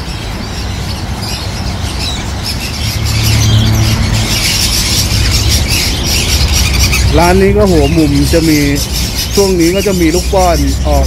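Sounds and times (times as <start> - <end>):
low steady hum: 0.0 - 9.2
parrots squawking and chirping: 0.0 - 11.0.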